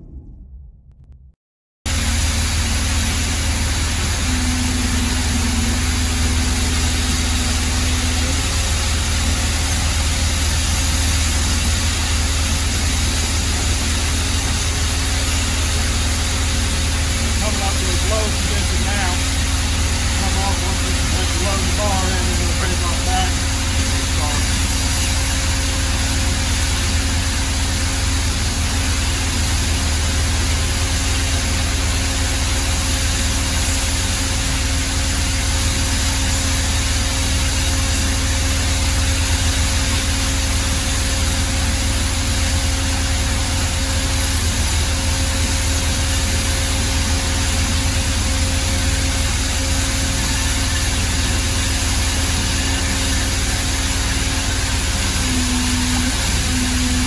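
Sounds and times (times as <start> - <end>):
machine power unit humming: 1.9 - 57.0.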